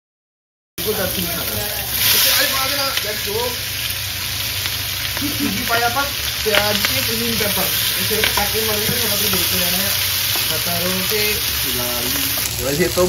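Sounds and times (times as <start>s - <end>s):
onions sizzling in hot oil: 0.8s - 13.0s.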